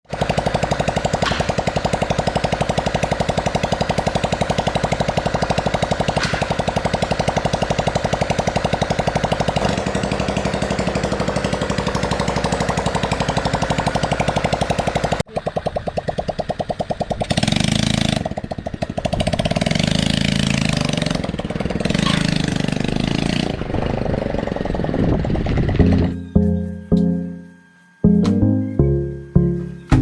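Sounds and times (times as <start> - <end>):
motorbike engine running: 0.1 - 30.0.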